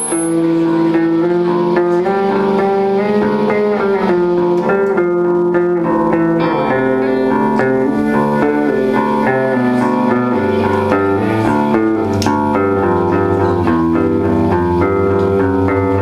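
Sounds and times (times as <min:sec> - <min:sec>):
electric guitar held notes: 0:00.0 - 0:16.0
live band music: 0:00.0 - 0:16.0.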